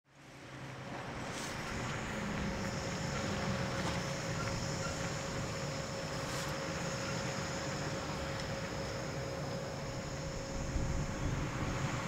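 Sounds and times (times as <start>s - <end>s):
electric train humming: 0.9s - 12.0s.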